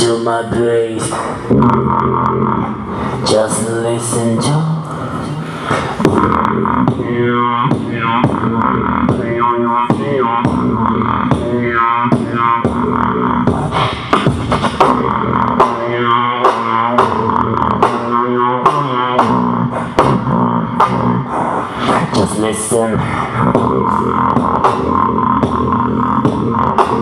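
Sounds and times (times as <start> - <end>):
beatboxing into a microphone: 0.0 - 27.0.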